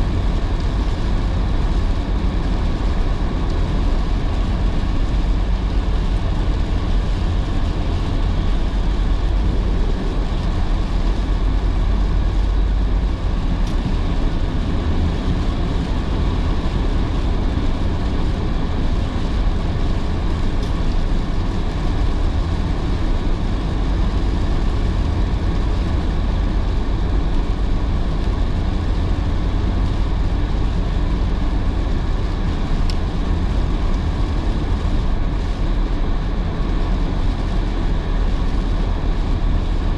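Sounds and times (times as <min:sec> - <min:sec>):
heavy rain hiss: 0:00.0 - 0:39.9
tyres rumbling on wet pavement: 0:00.0 - 0:39.9.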